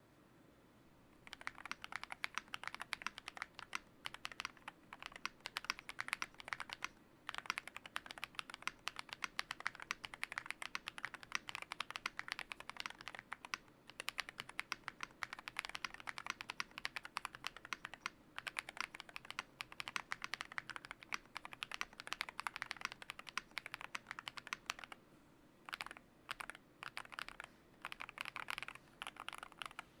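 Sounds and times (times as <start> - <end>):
mechanical keyboard typing: 1.2 - 25.0, 25.7 - 29.9.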